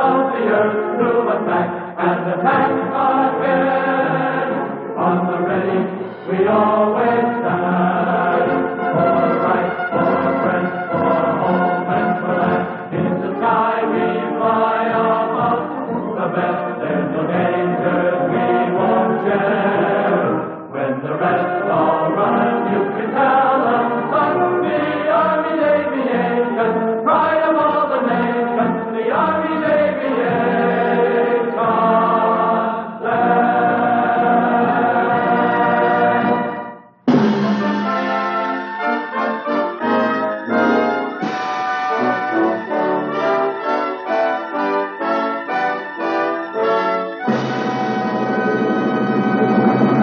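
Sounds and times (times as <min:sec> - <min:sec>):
wordless choir singing film music: 0:00.0 - 0:50.0.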